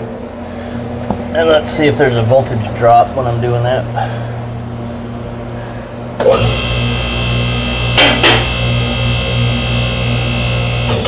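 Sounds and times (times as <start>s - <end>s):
hydraulic power unit hum and whine: 0.0s - 11.0s.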